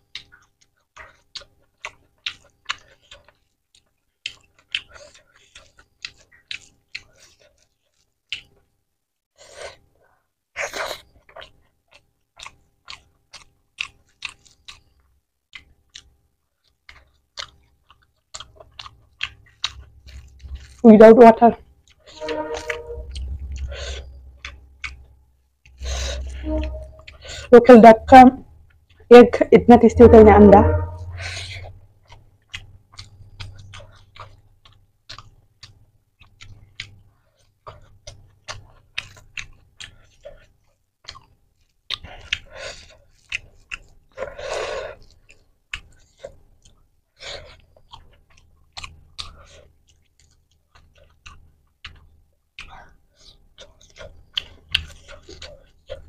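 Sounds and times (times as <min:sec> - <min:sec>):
mouth chewing wetly: 0:00.0 - 0:08.7, 0:10.5 - 0:27.7, 0:31.1 - 0:56.0.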